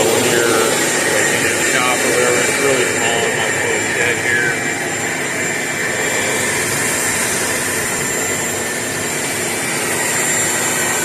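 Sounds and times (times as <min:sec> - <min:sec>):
shop vac running: 0:00.0 - 0:11.0.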